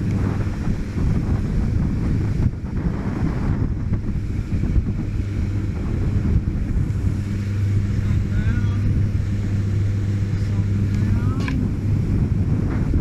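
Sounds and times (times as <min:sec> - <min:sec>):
boat motor humming: 0:00.0 - 0:13.0
water rushing past boat: 0:00.0 - 0:13.0
wind buffeting microphone: 0:00.0 - 0:13.0.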